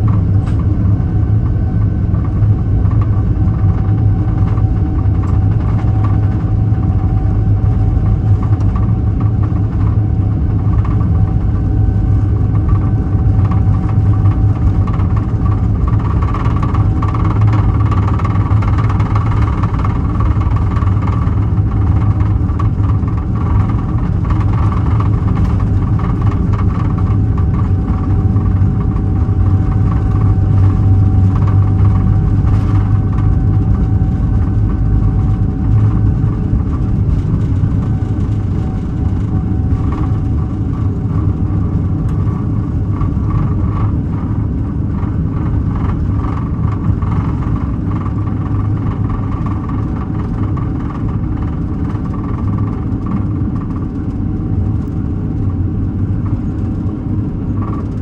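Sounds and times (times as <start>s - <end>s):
jet engines rumbling and whining: 0.0s - 58.0s.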